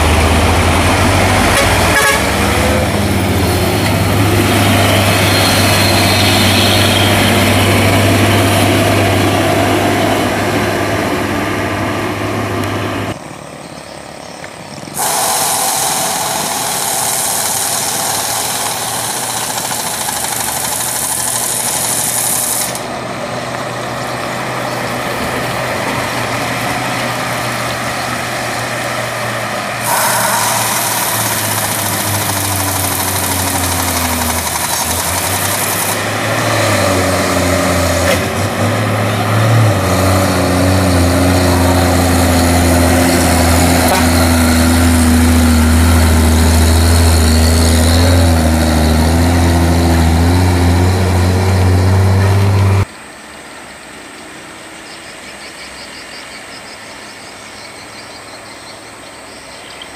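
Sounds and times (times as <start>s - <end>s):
truck diesel engine under load: 0.0s - 13.6s, 14.8s - 52.9s
distant engine: 0.0s - 53.4s.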